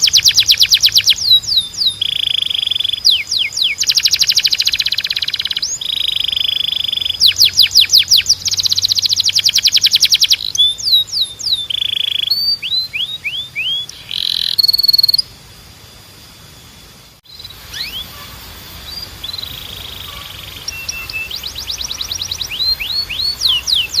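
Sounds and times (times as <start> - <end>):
canary singing: 0.0 - 15.4, 17.2 - 24.0.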